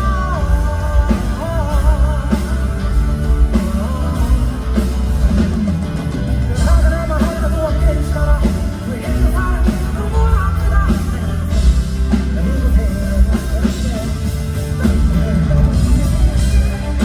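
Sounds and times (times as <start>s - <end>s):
bass guitar: 0.0s - 17.0s
drums: 0.0s - 17.0s
electric guitar: 0.0s - 17.0s
person singing: 0.0s - 17.0s.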